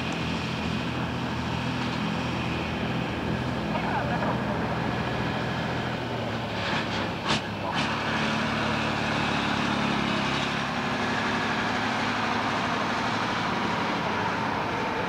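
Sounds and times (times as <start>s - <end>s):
piston aero engines idling: 0.0s - 15.0s.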